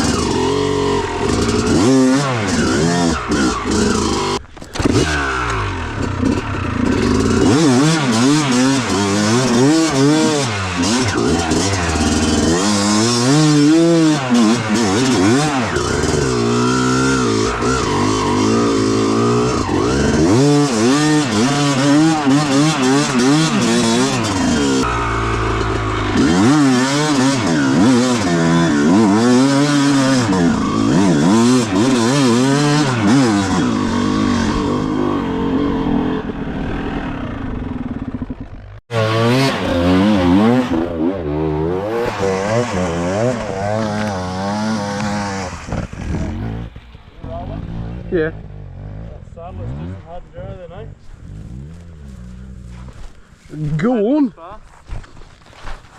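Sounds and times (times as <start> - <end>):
dirt bike engine revving: 0.0 - 54.5.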